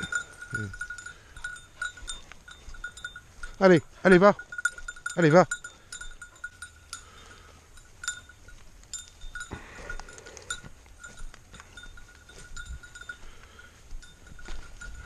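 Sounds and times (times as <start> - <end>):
small bell jingling: 0.0 - 15.0.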